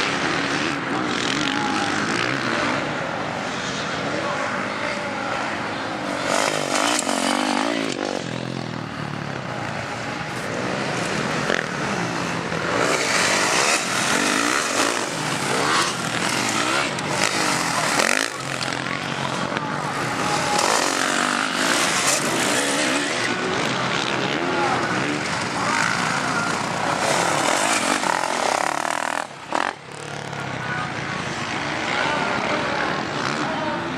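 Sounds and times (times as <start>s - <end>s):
motocross bikes revving: 0.0s - 33.9s.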